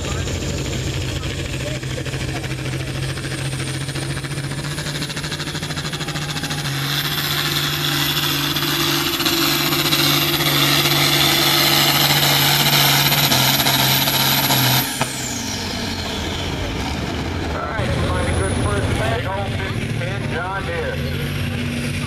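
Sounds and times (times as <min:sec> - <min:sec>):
tractor diesel engine at full power: 0:00.0 - 0:22.0.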